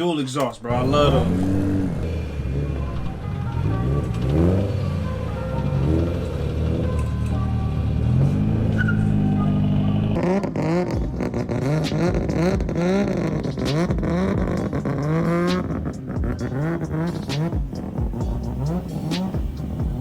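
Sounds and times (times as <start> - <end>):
exhaust cracks: 0.0 - 20.0
car engine revving: 0.6 - 20.0.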